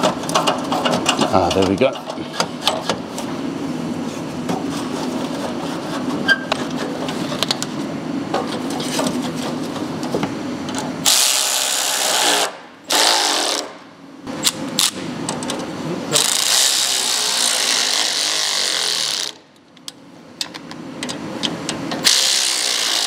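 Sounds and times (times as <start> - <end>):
low workshop hum: 0.0 - 23.0.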